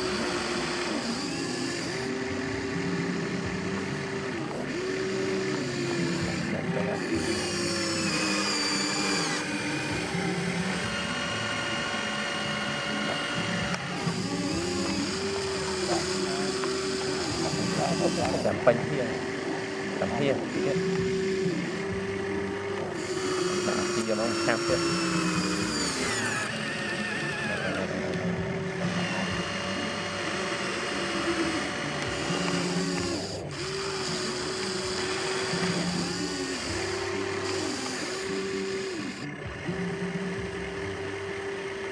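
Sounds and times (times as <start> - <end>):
toy electric motors whining: 0.0 - 41.9.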